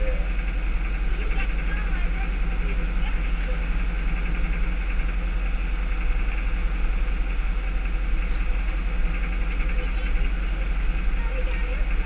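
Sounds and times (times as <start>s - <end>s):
tow truck engine idling: 0.0s - 12.0s.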